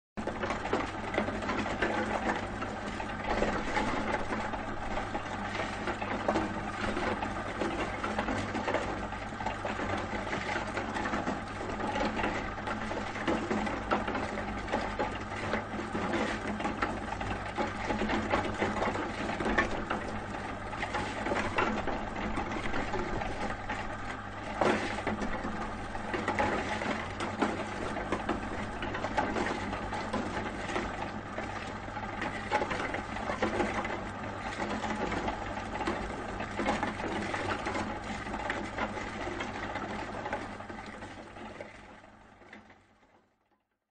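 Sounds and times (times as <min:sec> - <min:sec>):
ice grinding machine rattling: 0:00.2 - 0:42.9
machine low hum: 0:00.2 - 0:43.5.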